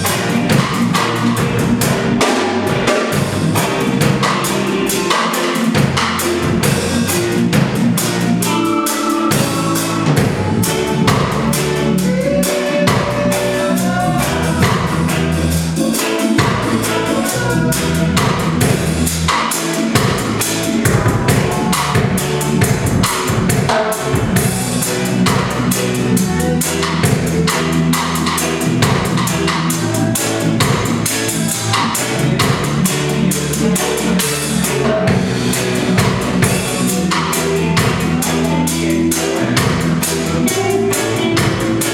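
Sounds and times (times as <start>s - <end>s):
band playing instrumental music: 0.0s - 41.9s
drum kit beat: 0.0s - 41.9s.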